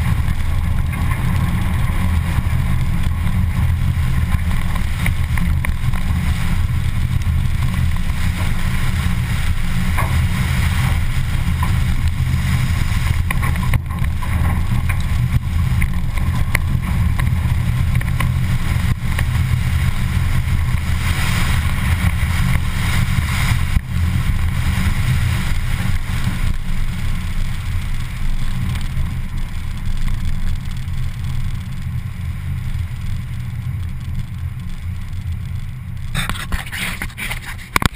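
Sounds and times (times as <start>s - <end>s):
car engine running hard: 0.0s - 37.9s
wind noise: 0.0s - 37.9s.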